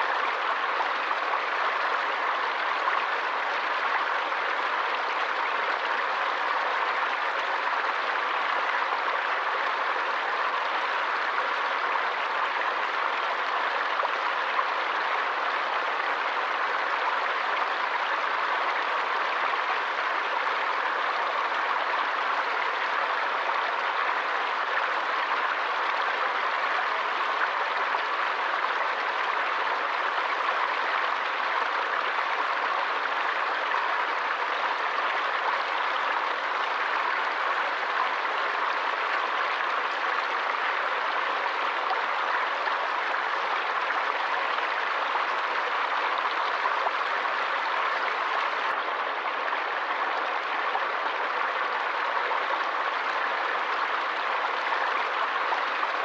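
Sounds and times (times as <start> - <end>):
forest stream flowing: 0.0 - 56.0.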